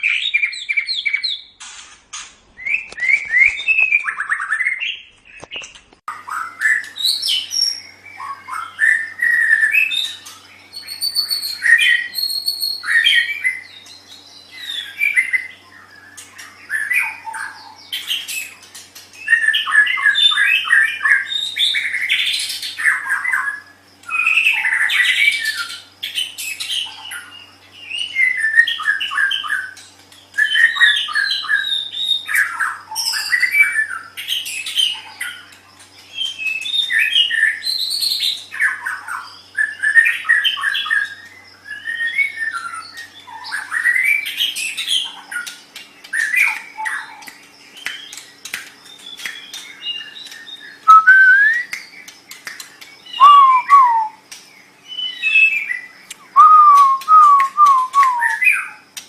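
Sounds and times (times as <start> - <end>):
bird singing whistles and trills: 0.0 - 1.6, 2.6 - 5.6, 6.2 - 58.8.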